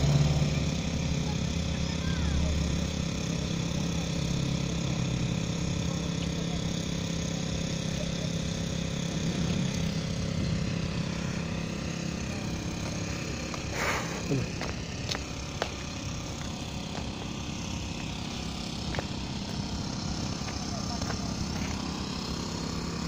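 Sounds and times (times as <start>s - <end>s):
engine idling with low hum: 0.0s - 23.0s.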